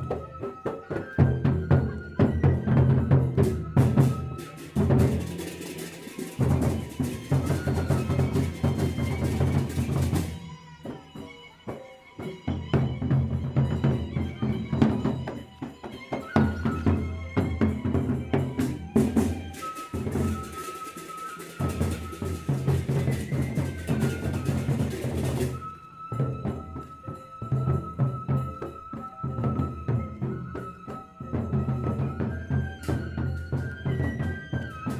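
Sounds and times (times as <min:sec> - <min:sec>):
large drums beating: 0:00.0 - 0:11.3, 0:12.2 - 0:34.9
bamboo flute melody: 0:00.0 - 0:34.9.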